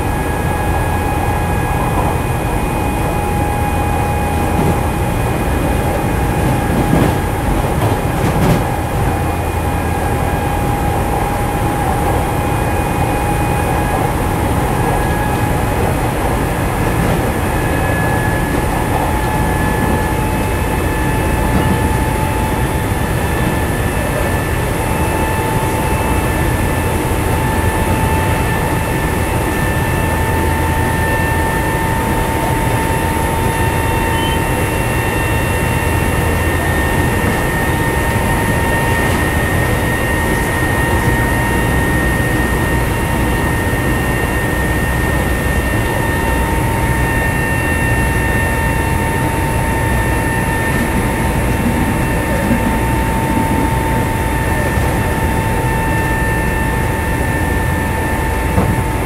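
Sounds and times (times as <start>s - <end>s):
electric train motor whine: 0.0s - 59.0s
wheels rumbling on rail: 0.0s - 59.0s.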